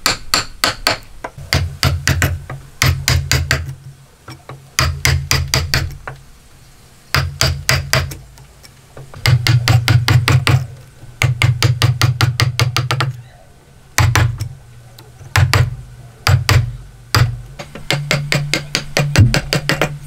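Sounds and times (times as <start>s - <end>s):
hammer striking a wood chisel: 0.0s - 6.2s, 7.1s - 8.2s, 9.0s - 13.1s, 14.0s - 14.5s, 15.3s - 20.0s.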